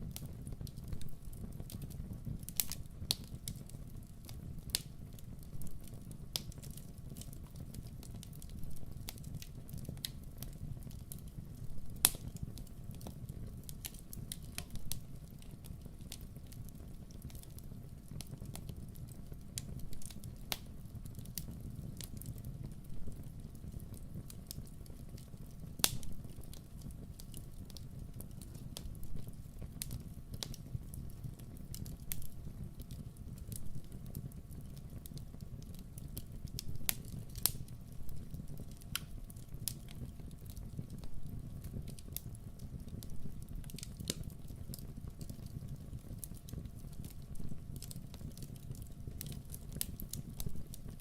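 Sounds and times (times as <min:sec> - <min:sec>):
fire popping and crackling: 0:00.0 - 0:51.0
fire rumbling: 0:00.0 - 0:51.0.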